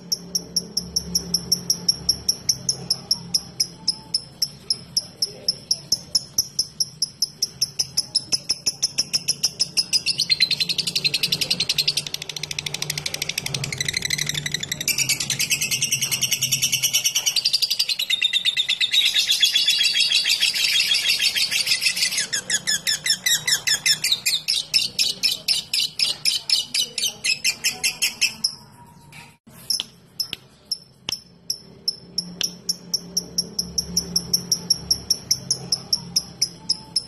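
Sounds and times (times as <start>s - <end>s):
lovebird chattering trill: 0.0s - 28.8s, 29.7s - 37.0s.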